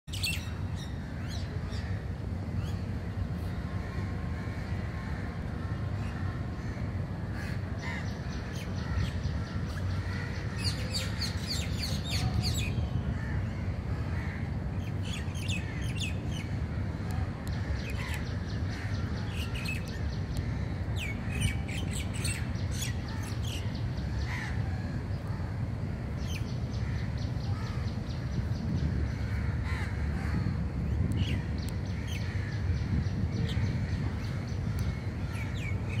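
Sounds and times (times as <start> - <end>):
birds chirping and calling: 0.1 - 25.5, 26.1 - 36.0.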